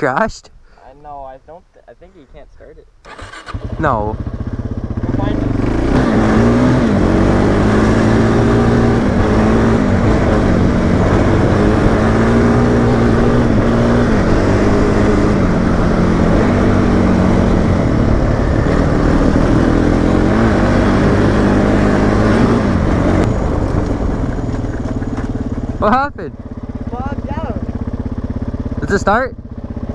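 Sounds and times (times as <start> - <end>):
dirt bike engine running: 3.1 - 29.9.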